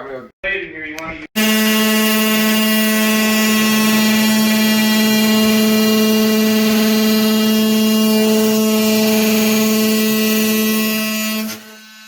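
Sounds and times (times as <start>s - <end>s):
electric power tool cutting: 1.4s - 12.0s.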